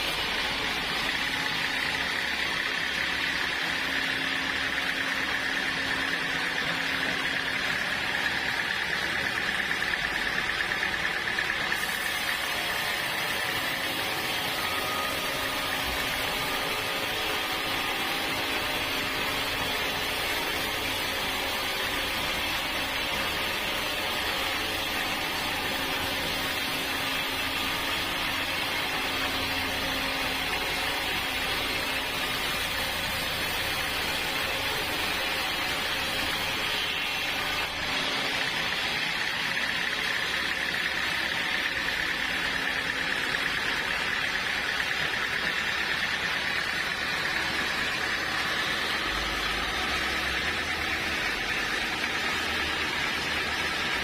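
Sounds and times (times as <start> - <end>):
sawmill sawing wood: 0.0 - 54.0.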